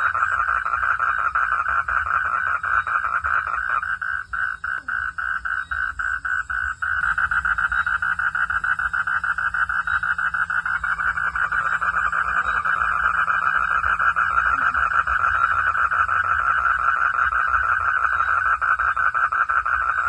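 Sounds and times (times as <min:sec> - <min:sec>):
frogs calling in pulses: 0:00.0 - 0:20.0.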